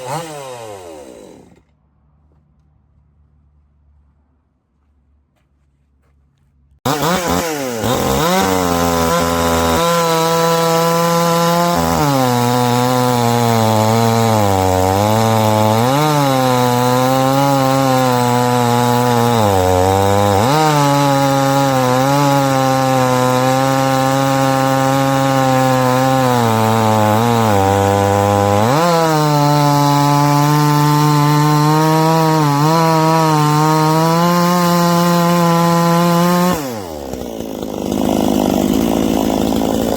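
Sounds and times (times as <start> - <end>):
chainsaw running at high revs: 0.0 - 1.7, 6.8 - 39.9.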